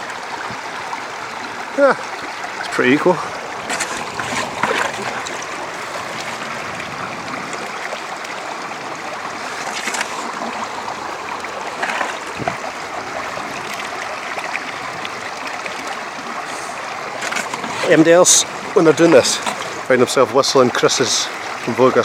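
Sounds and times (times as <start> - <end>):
water running through sluice box: 0.0 - 22.0.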